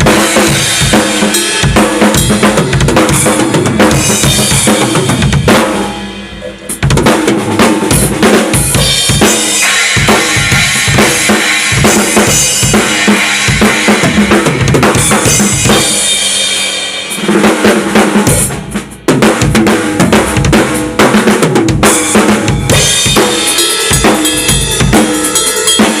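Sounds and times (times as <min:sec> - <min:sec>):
drum kit steady beat: 0:00.0 - 0:26.0.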